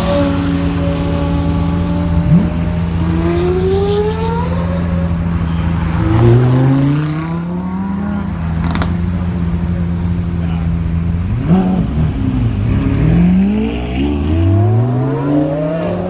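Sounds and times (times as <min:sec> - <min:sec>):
car engines idling: 0:00.0 - 0:16.0
car engines revving up: 0:00.0 - 0:16.0.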